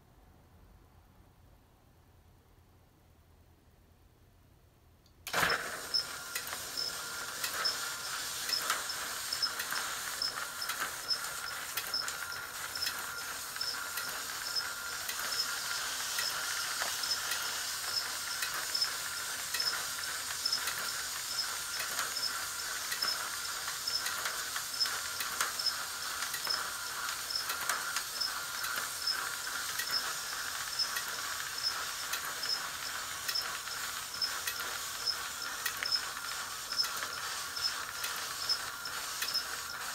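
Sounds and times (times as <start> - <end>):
motorized roll sign whirring: 5.2 - 39.9
light regular ticking: 5.9 - 39.9.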